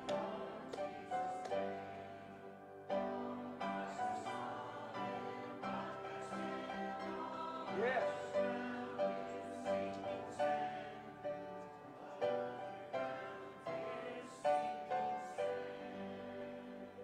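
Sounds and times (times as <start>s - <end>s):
church organ: 0.0s - 17.0s
piano chords: 0.0s - 17.0s.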